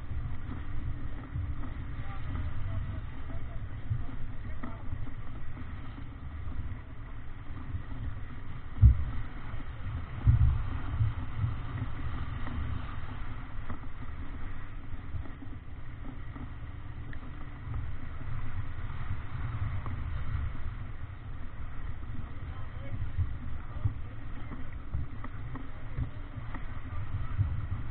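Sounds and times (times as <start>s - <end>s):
water rushing past hull: 0.0s - 27.9s
wind buffeting microphone: 0.0s - 27.9s.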